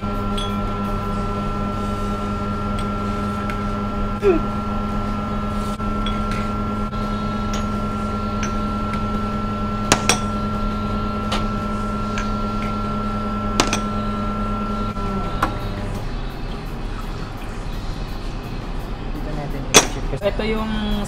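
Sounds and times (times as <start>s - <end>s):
espresso machine humming: 0.0s - 18.4s.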